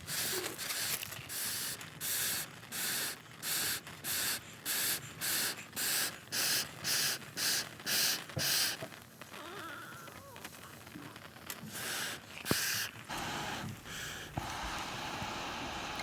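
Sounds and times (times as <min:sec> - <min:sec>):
air whooshing at campfire: 0:00.0 - 0:09.3, 0:10.5 - 0:16.0.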